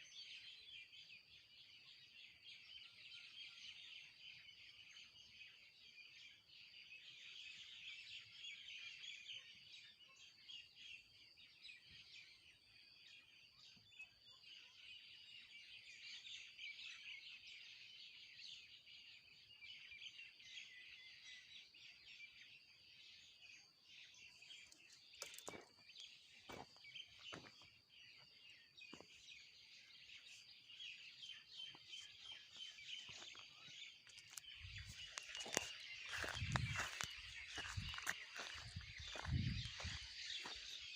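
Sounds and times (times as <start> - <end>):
chorus of small birds chirping: 0.0 - 40.9.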